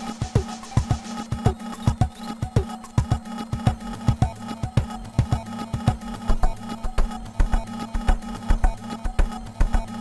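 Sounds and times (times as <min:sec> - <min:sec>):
glitchy electronic drum pattern: 0:00.0 - 0:10.0.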